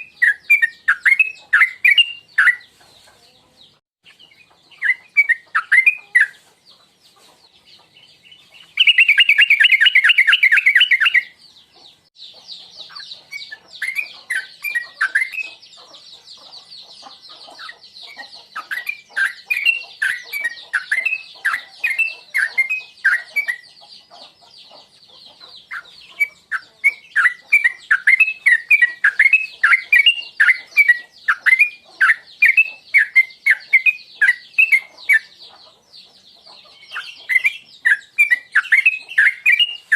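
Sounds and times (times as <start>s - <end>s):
bird chattering trill: 0.0s - 2.8s, 4.1s - 6.5s, 7.8s - 39.9s.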